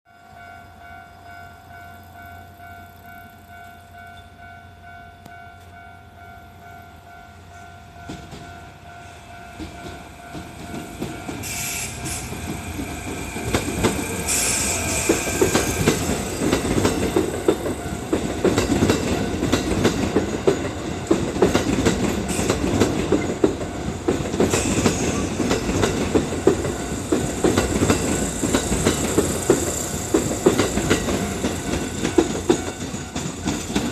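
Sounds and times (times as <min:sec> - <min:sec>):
electric train passing: 0:00.1 - 0:33.9
level-crossing alarm ringing: 0:00.1 - 0:33.9.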